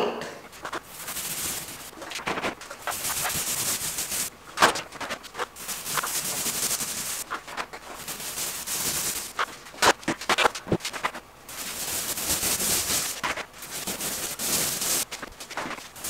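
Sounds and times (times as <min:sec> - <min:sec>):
paintbrush swishing on wall: 0:00.4 - 0:16.0.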